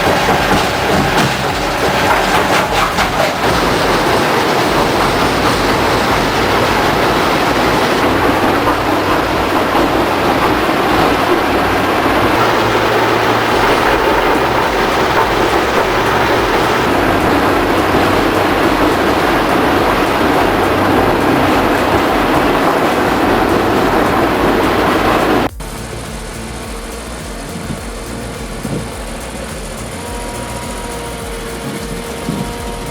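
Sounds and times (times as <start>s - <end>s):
low machine hum: 0.0s - 32.9s
machinery rattling and grinding: 0.0s - 32.9s.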